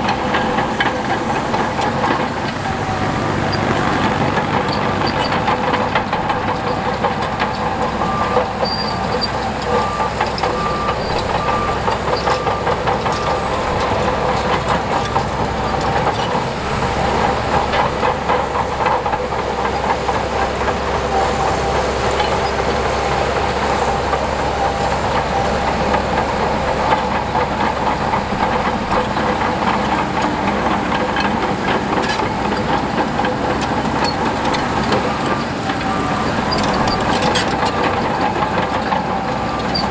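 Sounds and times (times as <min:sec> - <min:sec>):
diesel engine under load: 0:00.0 - 0:39.9
steel crawler tracks clattering: 0:00.0 - 0:39.9.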